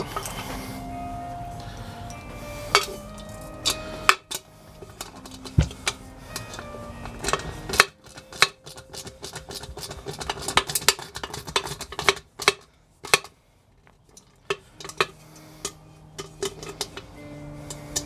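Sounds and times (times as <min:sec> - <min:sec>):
small metal parts clinking: 0:00.0 - 0:13.3, 0:14.0 - 0:18.0.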